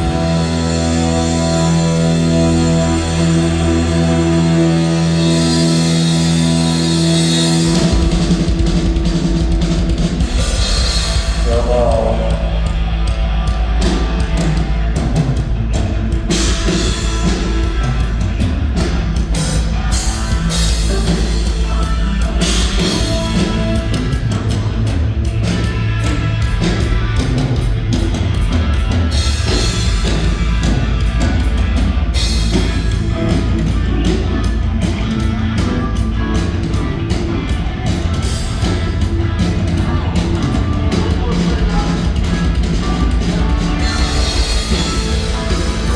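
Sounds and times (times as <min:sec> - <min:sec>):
rock band playing: 0:00.0 - 0:45.9.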